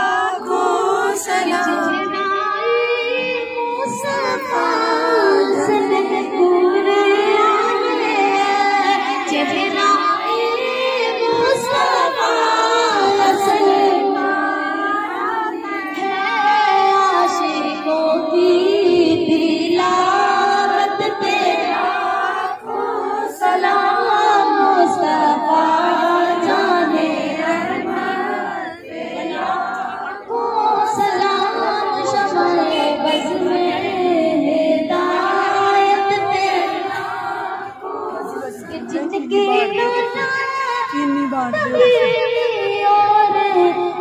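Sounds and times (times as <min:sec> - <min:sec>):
women singing together: 0:00.0 - 0:44.0.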